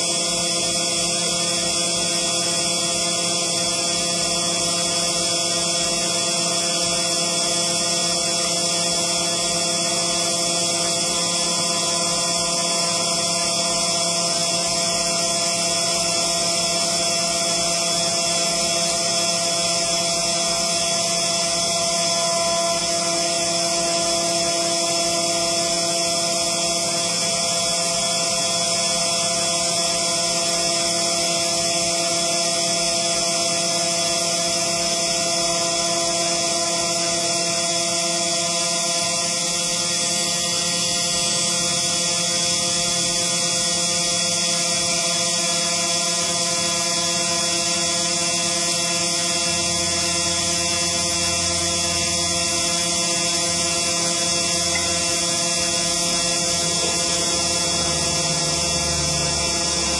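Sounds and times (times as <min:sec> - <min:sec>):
engraving machine whining hum: 0:00.0 - 0:59.9.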